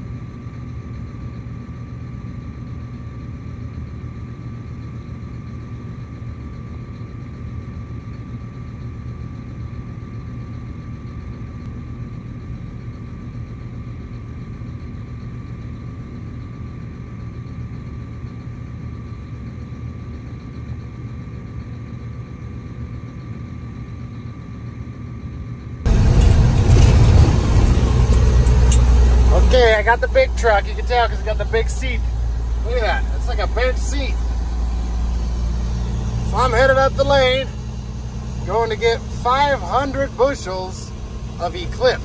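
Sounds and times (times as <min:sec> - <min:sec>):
engine running low rumble: 0:00.0 - 0:42.0
truck engine from inside cab: 0:00.0 - 0:42.0.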